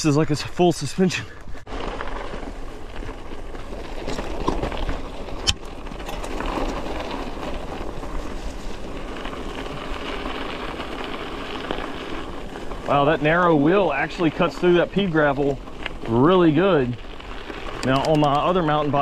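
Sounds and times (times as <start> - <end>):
bike tyres crunching gravel: 0.0 - 19.0.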